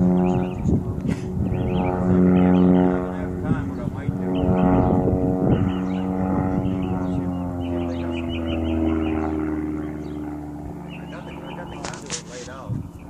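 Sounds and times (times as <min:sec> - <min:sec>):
propeller airplane drone: 0:00.0 - 0:13.0.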